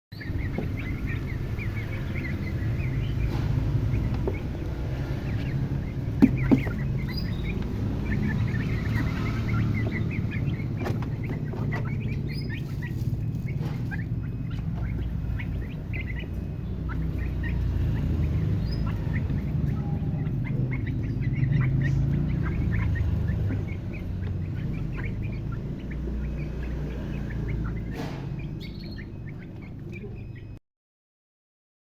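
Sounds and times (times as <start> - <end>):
birds chirping: 0.1 - 30.6
steady low rumble: 0.2 - 30.3.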